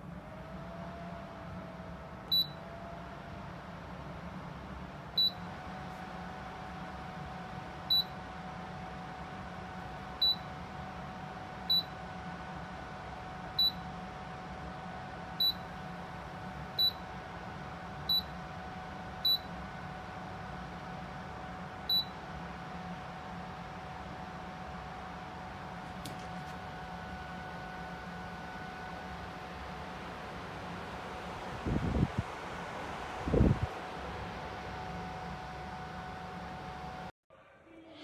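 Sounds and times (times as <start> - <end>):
fan beeping: 0.0 - 12.2, 13.4 - 14.1, 15.2 - 23.0, 24.9 - 37.1
fan whirring: 0.0 - 37.1.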